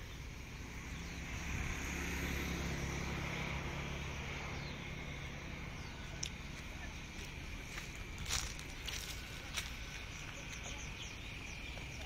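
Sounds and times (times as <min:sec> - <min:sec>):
passing vehicle engine humming: 0:00.0 - 0:12.0.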